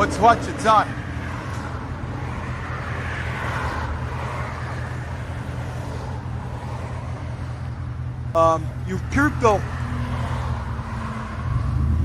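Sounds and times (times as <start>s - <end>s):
truck exhaust drone: 0.0s - 12.0s.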